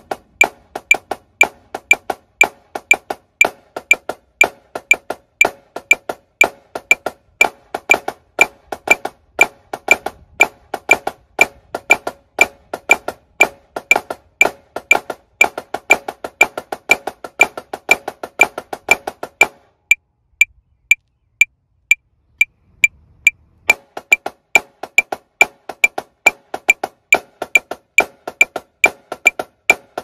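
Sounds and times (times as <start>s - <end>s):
snare drum played with sticks: 0.0s - 20.0s, 23.7s - 30.0s
metronome clicking: 0.0s - 30.0s.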